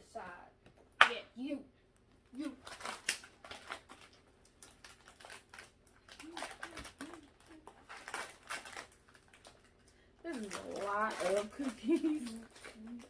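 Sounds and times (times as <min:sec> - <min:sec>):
plastic packaging crinkling: 0:02.4 - 0:13.0.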